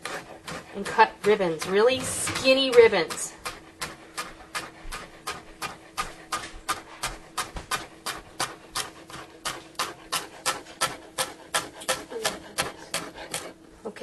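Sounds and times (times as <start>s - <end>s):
knife chopping on cutting board: 0.0s - 13.6s.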